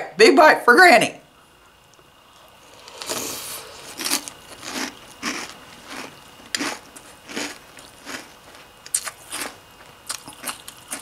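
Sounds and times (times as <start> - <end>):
chewing crunchy cereal: 1.5 - 11.0.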